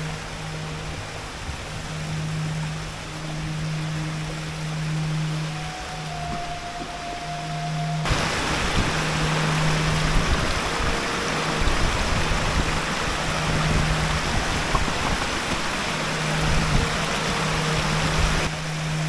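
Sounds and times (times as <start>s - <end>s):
low rumbling: 0.0s - 19.0s
water rushing over rocks: 0.0s - 19.0s.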